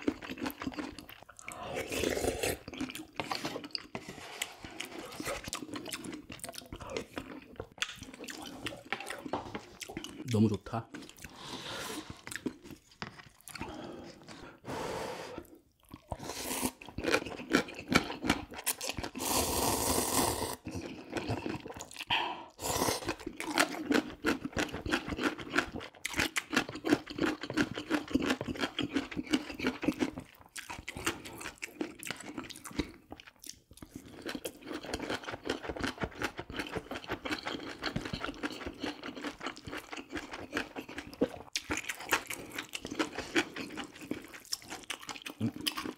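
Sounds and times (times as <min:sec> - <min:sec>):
chewing and crunching food: 0:00.0 - 0:14.6, 0:15.4 - 0:45.9.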